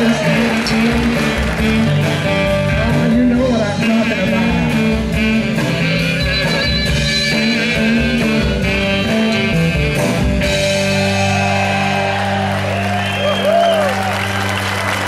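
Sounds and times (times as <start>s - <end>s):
drums: 0.0s - 15.0s
live rock band playing: 0.0s - 15.0s.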